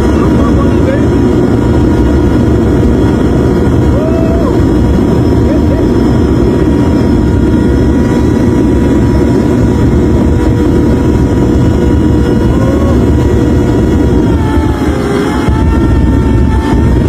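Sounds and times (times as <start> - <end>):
jet engine high whine: 0.0 - 17.0
jet engine roaring: 0.0 - 17.0.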